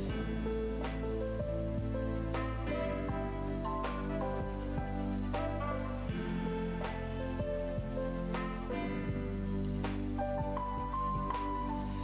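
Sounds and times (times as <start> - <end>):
held music chords: 0.0 - 12.0.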